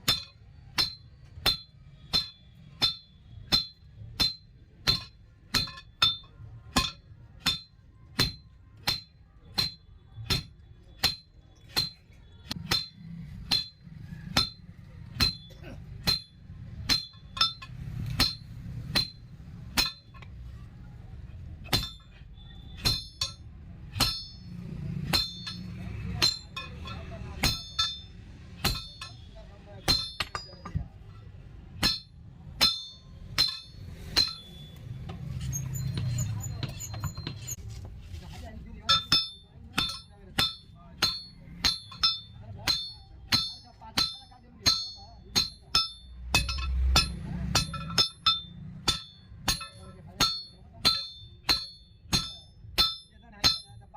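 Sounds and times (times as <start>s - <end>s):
hammer on steel ringing: 0.0s - 20.7s, 21.4s - 31.0s, 31.7s - 37.5s, 38.8s - 53.9s.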